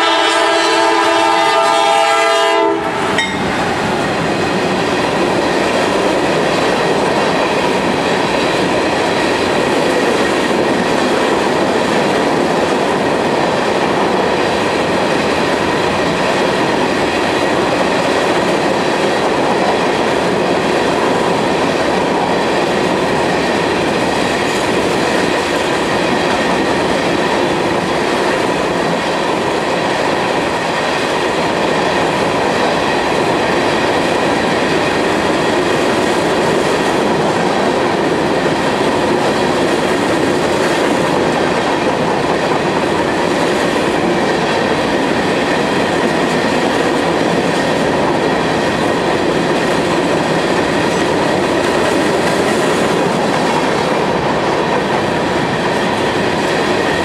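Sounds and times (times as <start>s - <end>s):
train wheels rolling on rail: 0.0s - 57.0s.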